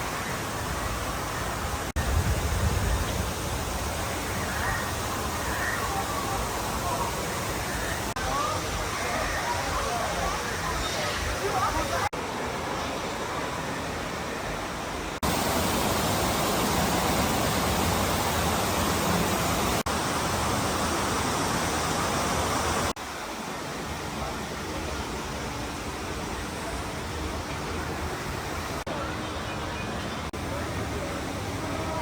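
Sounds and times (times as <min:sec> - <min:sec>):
steady rushing noise: 0:00.0 - 0:29.2.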